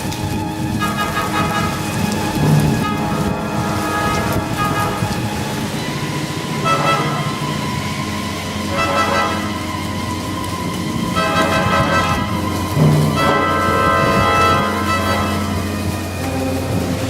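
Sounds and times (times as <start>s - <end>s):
background music with sustained chords: 0.0s - 17.0s
road noise: 0.0s - 17.0s
wind-driven rain: 0.0s - 17.0s.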